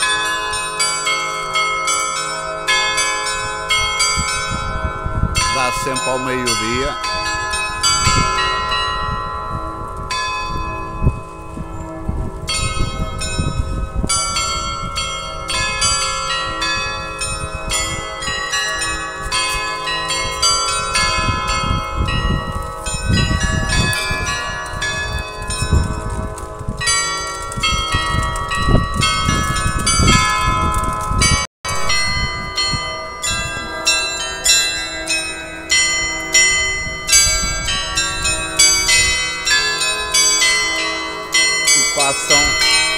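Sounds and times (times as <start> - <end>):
glockenspiel bells playing a tune: 0.0 - 11.6, 12.5 - 26.2, 26.8 - 42.9.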